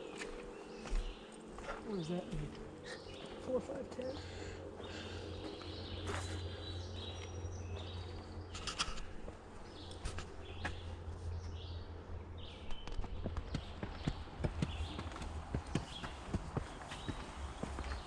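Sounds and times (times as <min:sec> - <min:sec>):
footsteps on woodland trail: 0:00.0 - 0:18.0
small birds chirping: 0:00.0 - 0:18.0.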